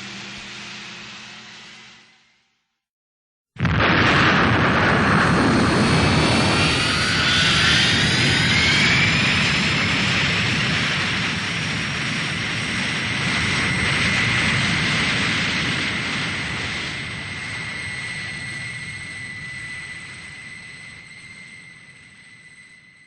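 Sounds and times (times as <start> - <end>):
spacecraft engine whine: 0.0 - 2.3, 3.7 - 23.0.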